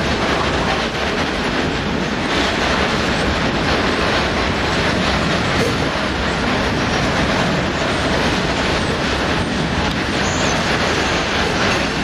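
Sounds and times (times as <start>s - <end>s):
faint clickety-clack over rail joints: 0.0s - 12.0s
train rumble and wheel noise: 0.0s - 12.0s.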